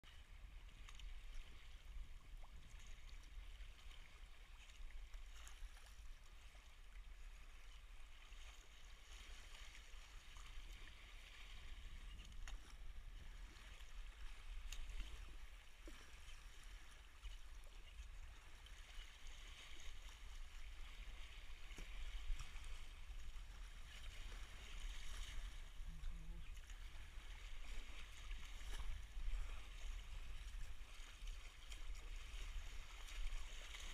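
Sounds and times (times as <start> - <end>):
water splashing along kayak hull: 0.0 - 33.9.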